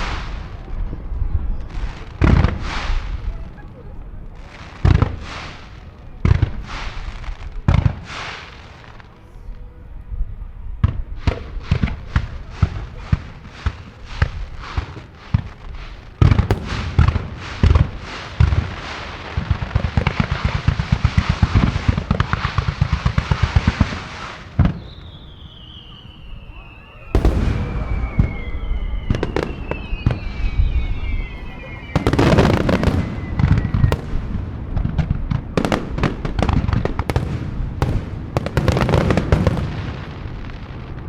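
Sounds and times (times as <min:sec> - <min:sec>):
fireworks booms and bangs: 0:00.0 - 0:09.1, 0:10.8 - 0:41.0
fireworks crackle: 0:00.0 - 0:09.7, 0:11.1 - 0:41.0.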